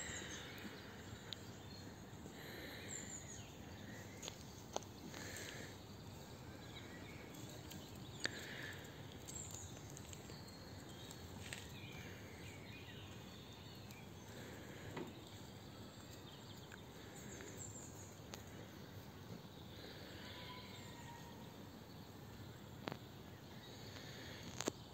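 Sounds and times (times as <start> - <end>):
steady background hiss: 0.0 - 24.9.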